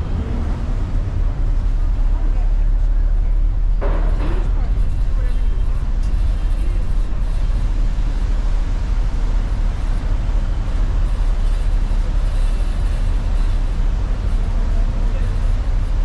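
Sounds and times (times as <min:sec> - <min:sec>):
loud low rumble: 0:00.0 - 0:16.0
wind buffeting microphone: 0:00.0 - 0:16.0.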